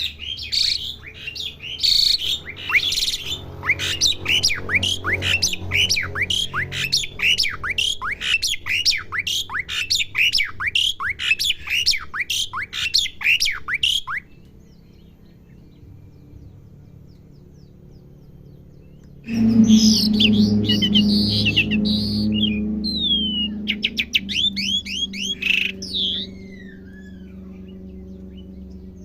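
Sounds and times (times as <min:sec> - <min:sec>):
starling calling: 0:00.0 - 0:14.3, 0:19.3 - 0:29.0.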